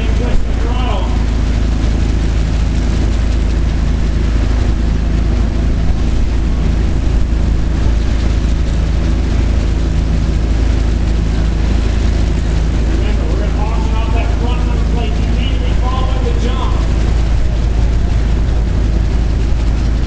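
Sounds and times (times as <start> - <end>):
helicopters idling: 0.0 - 20.0.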